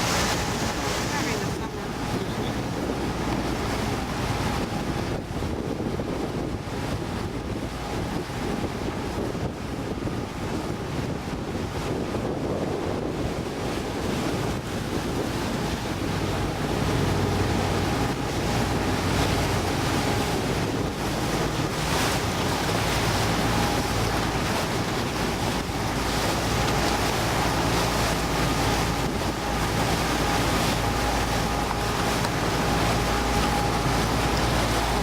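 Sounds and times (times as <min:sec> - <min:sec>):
motorboat engine running: 0:00.0 - 0:35.0
water rushing past hull: 0:00.0 - 0:35.0
wind buffeting microphone: 0:00.0 - 0:35.0.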